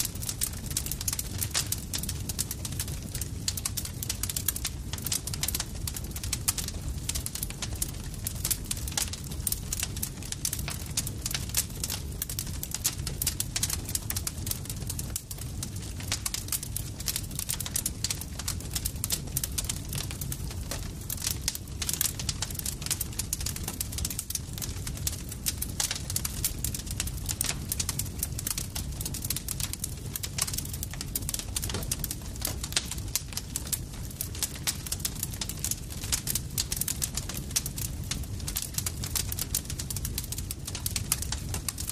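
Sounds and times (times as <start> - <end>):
campfire crackling and popping: 0.0 - 41.9
low rumble of flames: 0.0 - 41.9.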